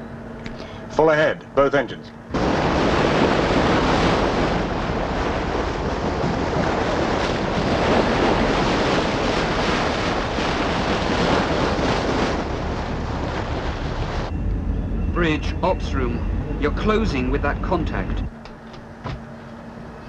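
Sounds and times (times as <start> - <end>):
low rumble: 2.2 - 18.4
wind and sea rushing: 2.2 - 20.0.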